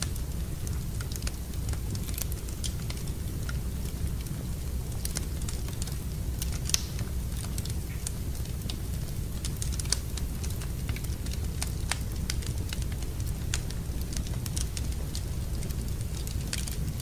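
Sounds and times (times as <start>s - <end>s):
fire crackling in fireplace: 0.0s - 17.0s.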